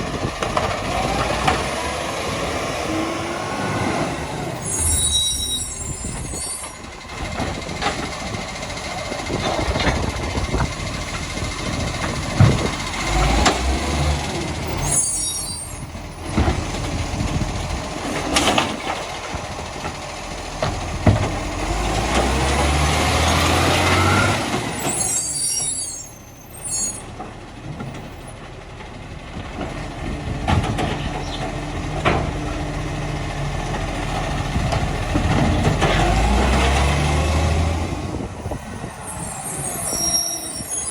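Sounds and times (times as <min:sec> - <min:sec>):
garbage truck engine running: 0:00.0 - 0:40.9.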